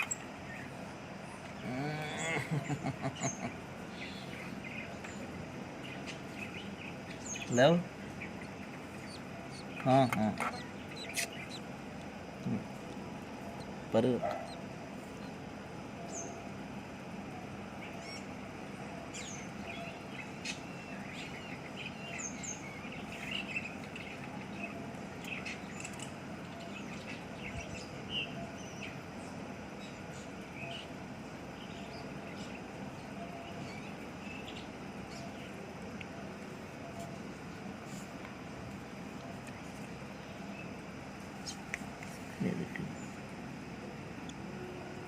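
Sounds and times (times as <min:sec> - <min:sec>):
lovebirds chirping: 0:00.0 - 0:45.0.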